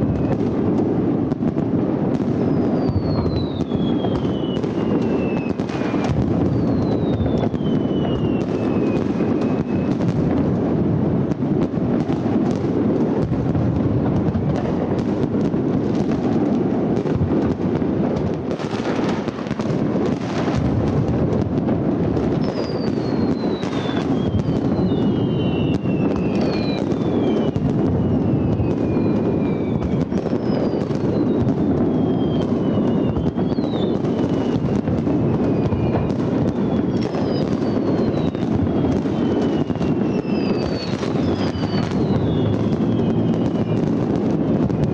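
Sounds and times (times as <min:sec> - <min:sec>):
fireworks bursts rumbling: 0:00.0 - 0:44.9
fireworks whistling: 0:00.0 - 0:44.9.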